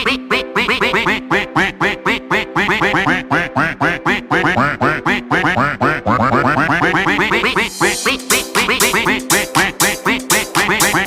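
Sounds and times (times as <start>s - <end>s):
upbeat novelty music: 0.0s - 11.0s.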